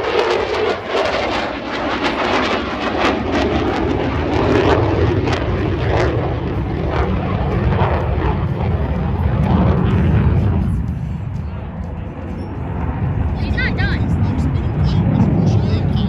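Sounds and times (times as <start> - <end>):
airplane engine rumbling: 0.0 - 16.0.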